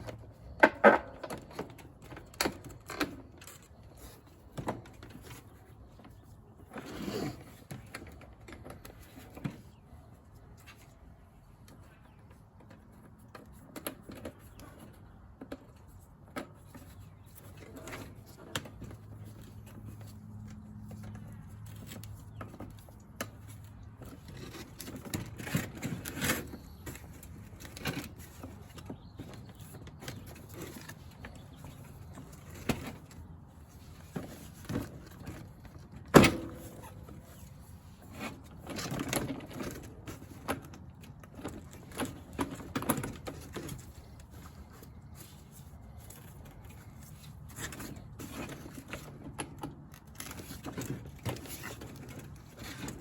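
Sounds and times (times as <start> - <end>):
clicks and rattles of parts handled: 0.0 - 53.0.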